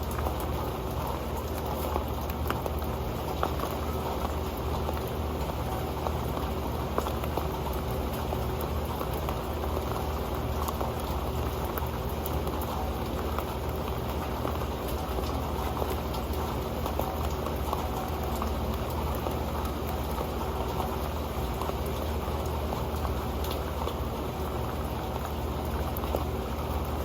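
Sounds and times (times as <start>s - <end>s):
rain pattering on a metal pan: 0.0s - 27.0s.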